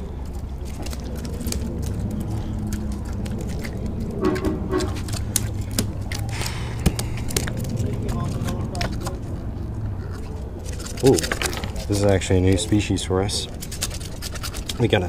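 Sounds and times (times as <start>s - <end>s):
fish flopping on wooden boards: 0.0s - 15.0s
steady low rumble: 0.0s - 15.0s.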